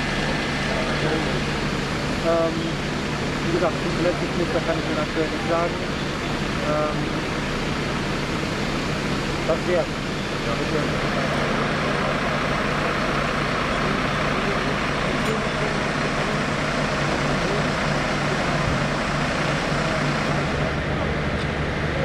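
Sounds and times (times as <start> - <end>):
heavy engine humming: 0.0 - 22.0.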